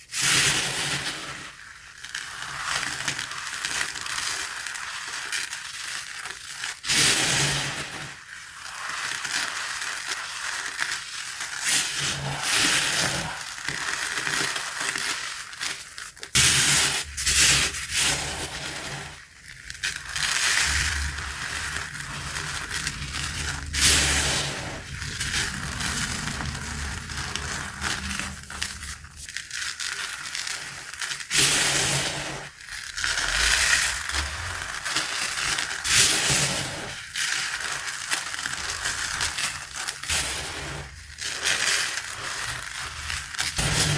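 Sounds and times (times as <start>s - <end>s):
cornstarch crunching: 0.3s - 43.9s.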